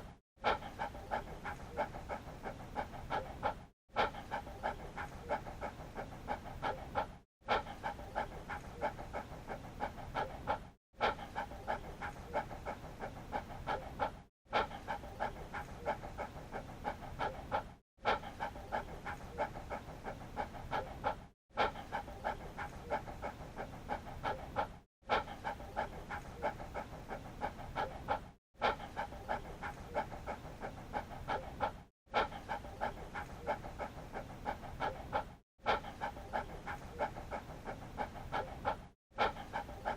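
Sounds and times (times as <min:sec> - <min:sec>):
dog panting rapidly: 0:00.0 - 0:39.9.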